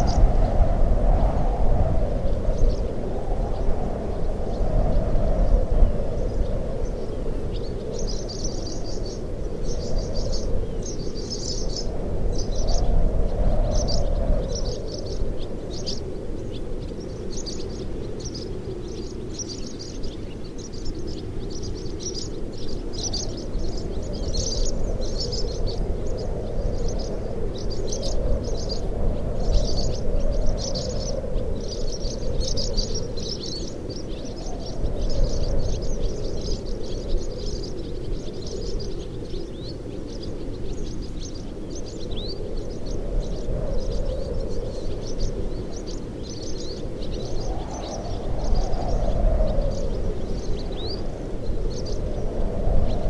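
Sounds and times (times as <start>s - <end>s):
swallows twittering: 0.0s - 0.6s, 2.3s - 53.0s
wind moaning: 0.0s - 53.0s.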